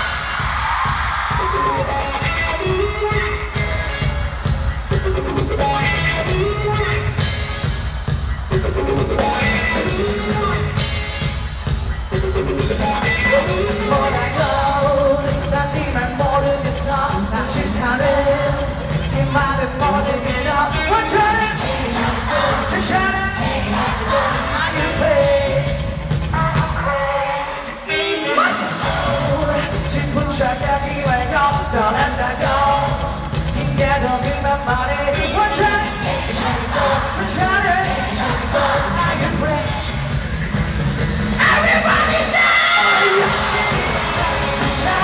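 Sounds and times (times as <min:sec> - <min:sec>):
live pop-rock band: 0:00.0 - 0:45.0
lead vocal singing: 0:08.6 - 0:45.0.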